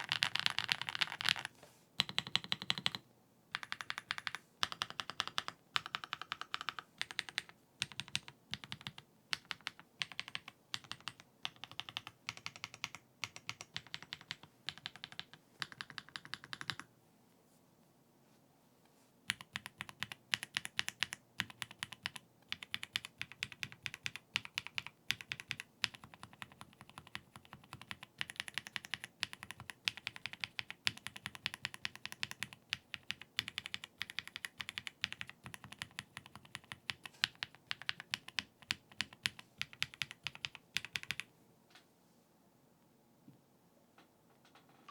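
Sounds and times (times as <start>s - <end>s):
mechanical keyboard typing: 0.0s - 16.9s, 19.3s - 41.3s.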